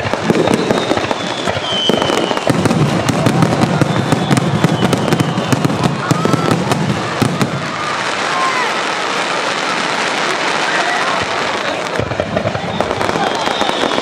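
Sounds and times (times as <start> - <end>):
fireworks booming: 0.0 - 14.0
fireworks crackling pops: 0.0 - 14.0
fireworks whistles sliding down: 0.0 - 14.0.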